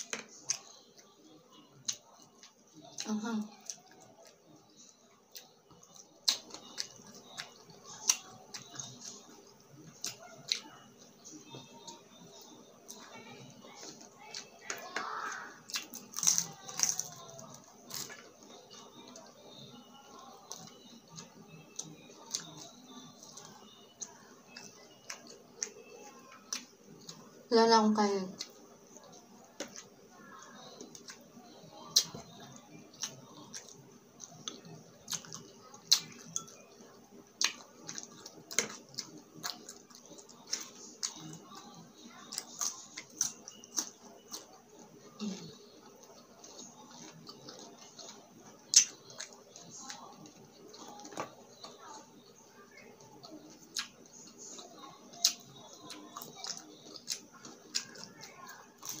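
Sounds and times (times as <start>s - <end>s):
crunchy chips being chewed: 1.8s - 27.3s, 28.4s - 59.0s.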